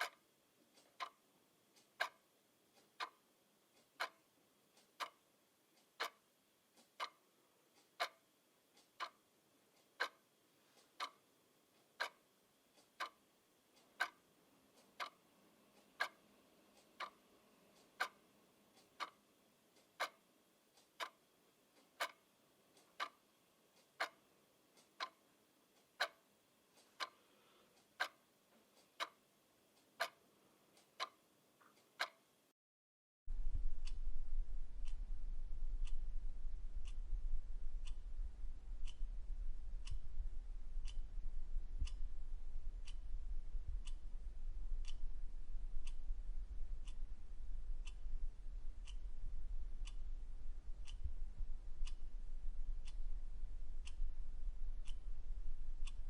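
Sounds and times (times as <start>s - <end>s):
clock ticking: 0.0s - 32.4s, 33.3s - 56.0s.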